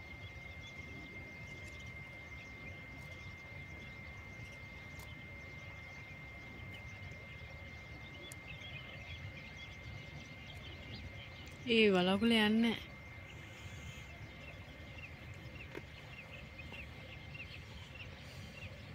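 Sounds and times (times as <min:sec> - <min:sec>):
faint chirps: 0:00.0 - 0:18.9.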